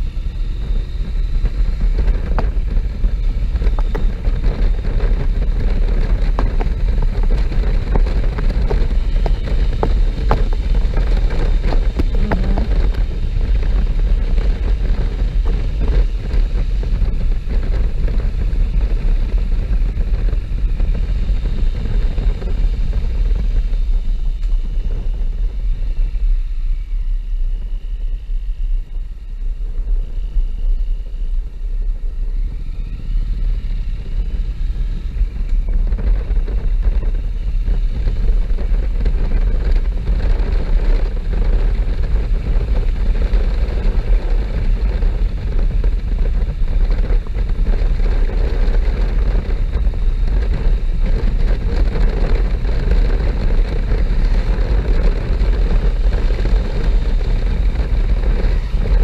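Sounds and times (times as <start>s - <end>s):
motorcycle engine: 0.0s - 28.3s, 29.0s - 59.0s
wind rumble on microphone: 0.0s - 59.0s.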